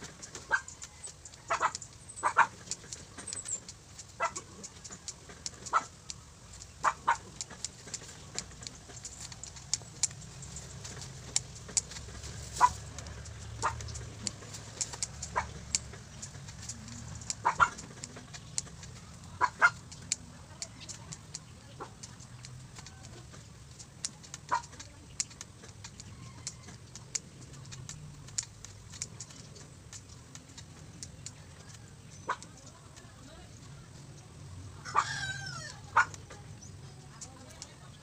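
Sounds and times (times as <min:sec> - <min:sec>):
sharp ticks and chirps: 0:00.0 - 0:34.6, 0:35.5 - 0:38.0
chickens clucking: 0:00.0 - 0:38.0.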